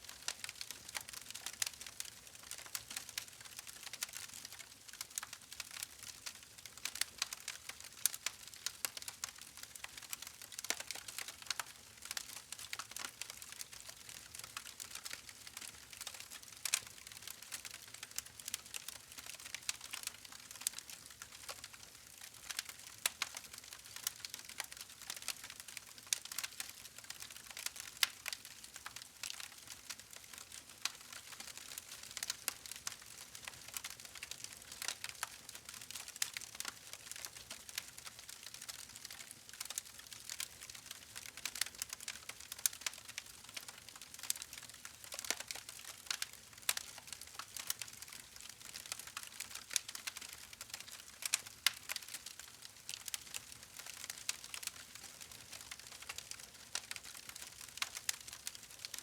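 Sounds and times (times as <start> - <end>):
wood fire crackling: 0.2 - 59.0.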